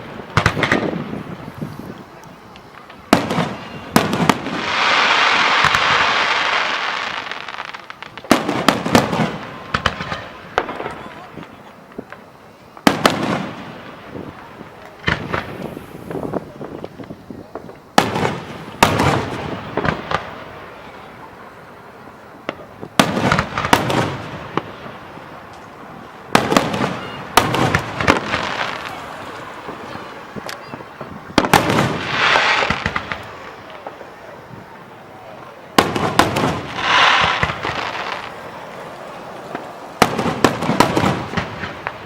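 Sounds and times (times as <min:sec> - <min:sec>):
fireworks bangs with echo: 0:00.0 - 0:42.0
fireworks hissing crackle: 0:00.0 - 0:42.0.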